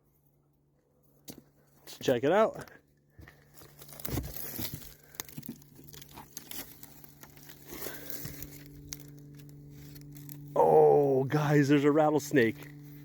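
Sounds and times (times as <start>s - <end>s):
faint low hum: 0.0s - 13.0s
dry debris crinkling and rustling: 1.2s - 13.0s.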